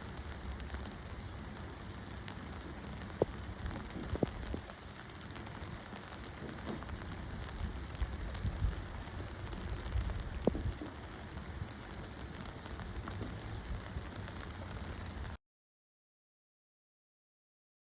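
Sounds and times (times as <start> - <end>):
steady rain falling: 0.0 - 15.4.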